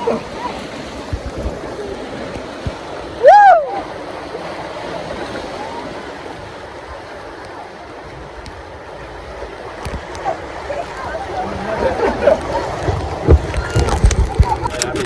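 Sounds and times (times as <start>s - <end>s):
rushing splashing water: 0.0s - 15.0s.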